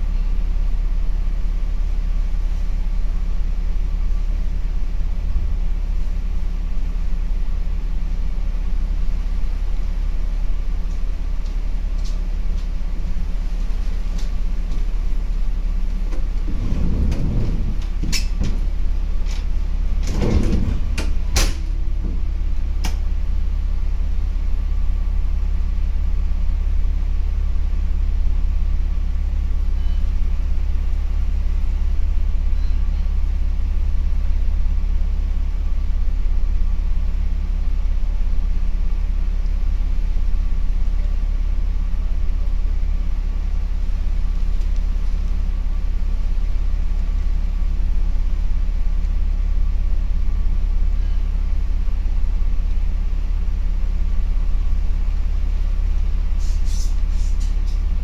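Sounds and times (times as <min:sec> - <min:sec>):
diesel railcar engine idling: 0:00.0 - 0:58.0.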